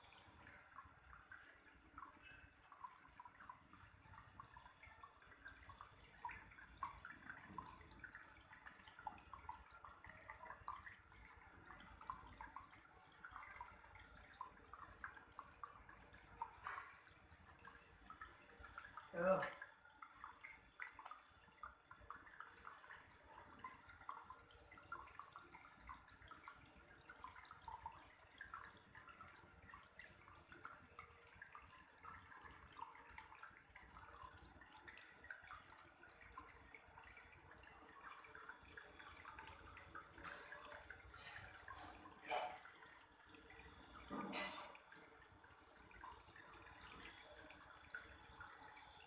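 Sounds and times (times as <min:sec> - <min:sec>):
small water fountain trickling: 0:00.0 - 0:49.0.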